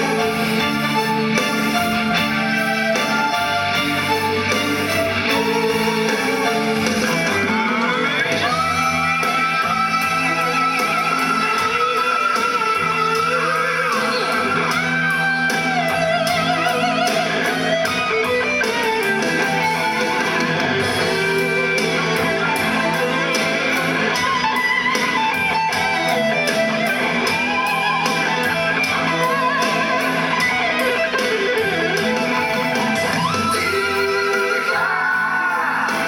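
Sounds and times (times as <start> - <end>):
pop-rock music with electric guitar: 0.0 - 36.0.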